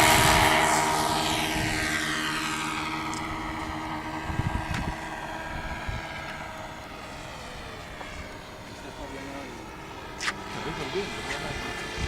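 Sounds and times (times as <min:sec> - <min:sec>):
model airplane engines flying past: 0:00.0 - 0:12.0.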